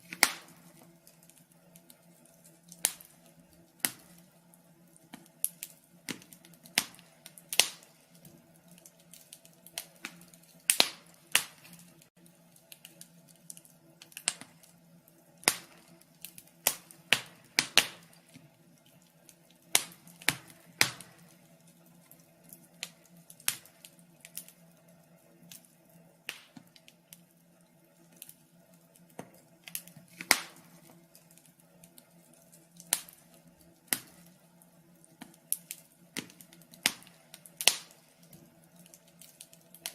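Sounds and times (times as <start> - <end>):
faint steady hum: 0.0 - 39.9
fire crackling: 0.0 - 39.9.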